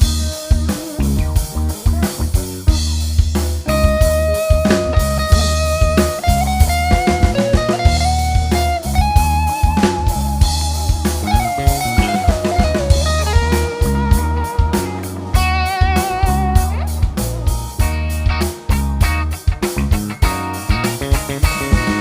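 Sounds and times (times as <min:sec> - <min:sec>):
bass: 0:00.0 - 0:22.0
drum kit beat: 0:00.0 - 0:22.0
sliding lead melody: 0:00.0 - 0:22.0.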